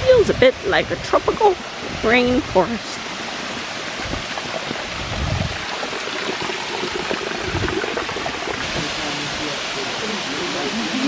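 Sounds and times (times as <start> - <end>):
water running and trickling: 0.0 - 11.0.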